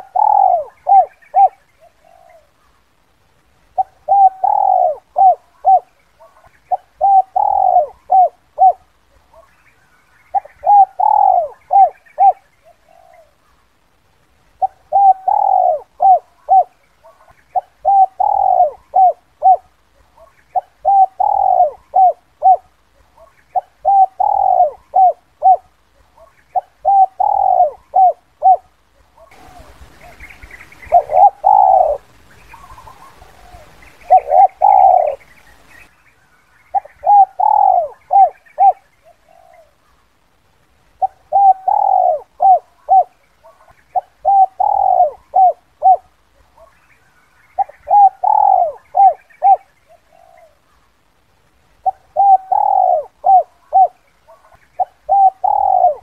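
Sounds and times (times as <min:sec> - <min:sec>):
dove cooing: 0:00.0 - 0:02.7, 0:03.7 - 0:09.7, 0:10.3 - 0:13.6, 0:14.6 - 0:35.7, 0:36.7 - 0:40.0, 0:41.0 - 0:46.8, 0:47.5 - 0:50.9, 0:51.8 - 0:56.0
faint hiss: 0:00.0 - 0:56.0.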